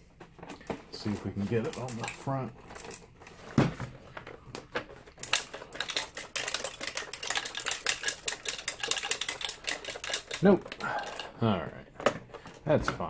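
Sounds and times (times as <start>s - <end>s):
object rattling in plastic housing: 0.2s - 13.0s.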